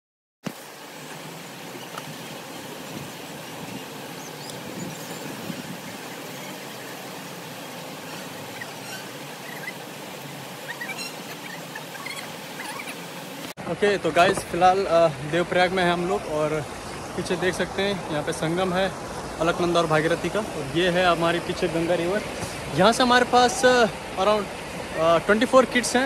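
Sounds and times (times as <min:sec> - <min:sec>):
river water rushing: 0:00.5 - 0:26.0.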